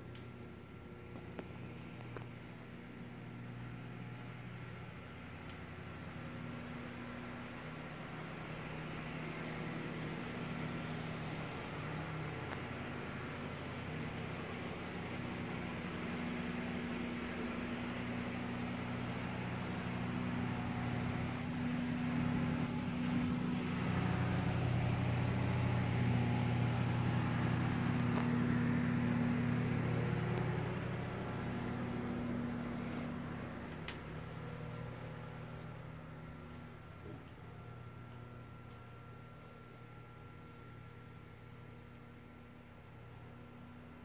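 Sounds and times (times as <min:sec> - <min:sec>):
mechanical motor hum: 0:00.0 - 0:44.0.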